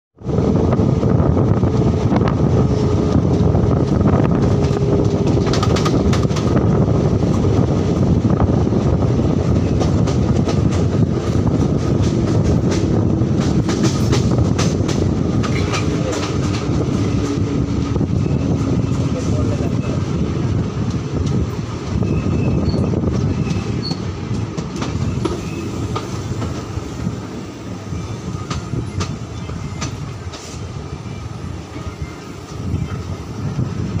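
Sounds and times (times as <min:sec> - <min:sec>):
train wheels rumbling on rails: 0:00.2 - 0:34.0.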